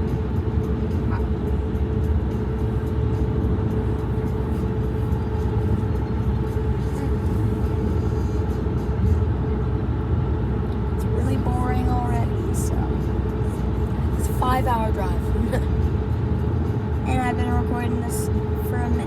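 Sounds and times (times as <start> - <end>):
car cabin road rumble: 0.0 - 19.0
faint constant hum: 0.0 - 19.0.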